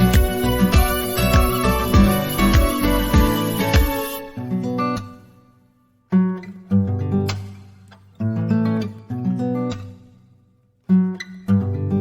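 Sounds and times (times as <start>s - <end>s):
plucked guitar-like background music: 0.0s - 12.0s.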